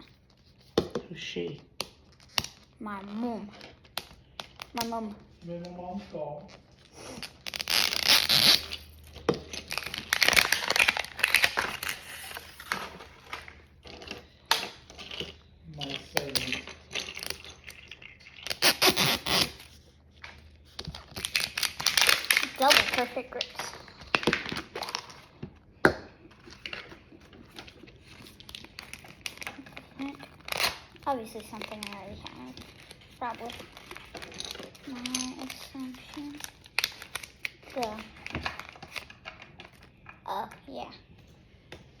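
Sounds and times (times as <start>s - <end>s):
food packaging crinkling: 6.5s - 40.2s.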